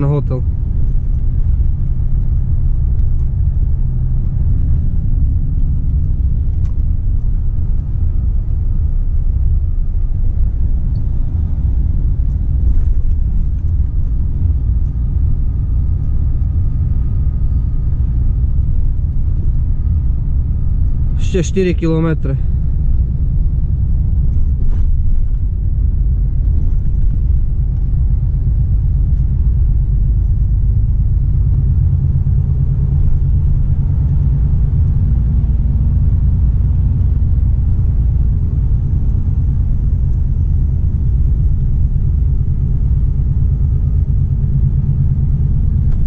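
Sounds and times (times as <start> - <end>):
truck engine and road rumble: 0.0 - 46.0.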